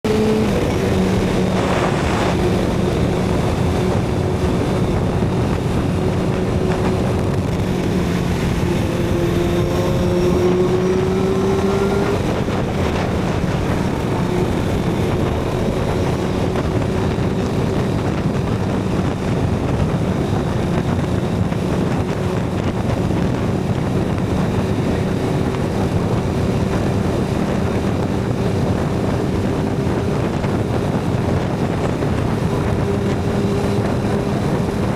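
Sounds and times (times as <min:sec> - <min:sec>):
motorcycle engine riding: 0:00.0 - 0:34.9
wind rush on microphone: 0:00.0 - 0:34.9.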